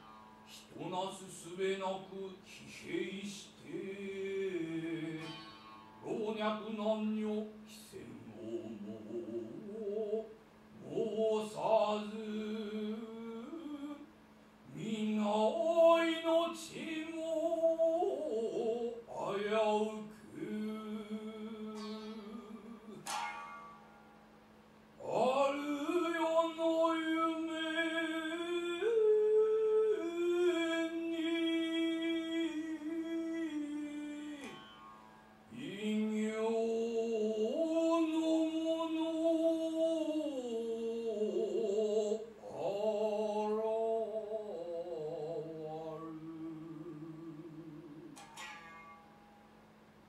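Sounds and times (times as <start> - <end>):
narrative chant with vibrato: 0.0 - 5.4, 6.0 - 14.1, 14.7 - 23.2, 25.0 - 34.7, 35.5 - 48.4.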